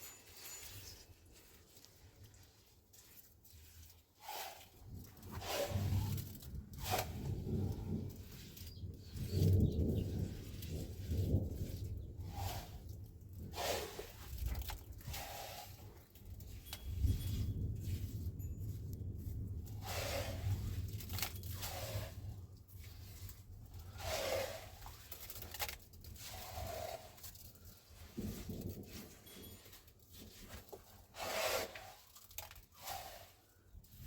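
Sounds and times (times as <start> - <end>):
rasping scraping strokes: 0.0 - 34.0.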